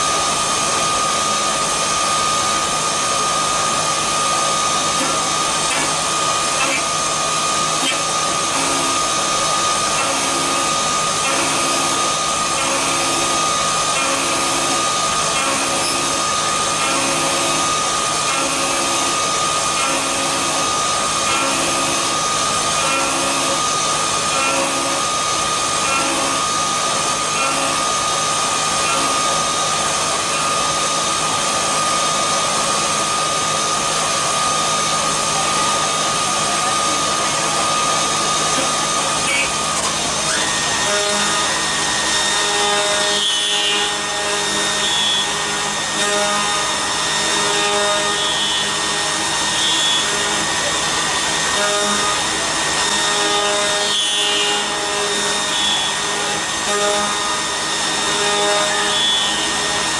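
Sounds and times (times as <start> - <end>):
lathe whirring with high tone: 0.0 - 59.9.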